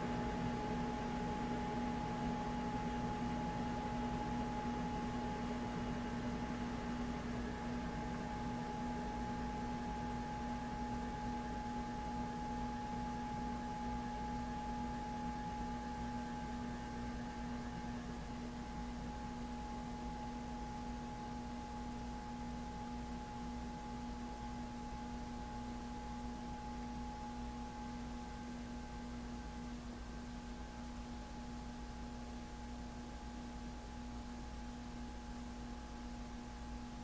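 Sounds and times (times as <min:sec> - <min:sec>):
ceiling fan motor humming: 0:00.0 - 0:37.0.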